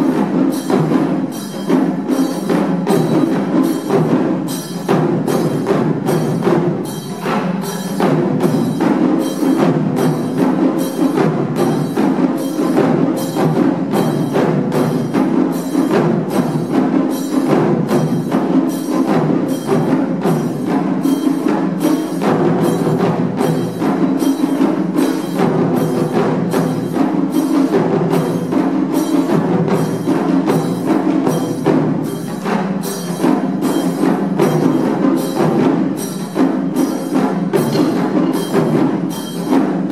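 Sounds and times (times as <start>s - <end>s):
taiko drums playing: 0.0s - 39.9s.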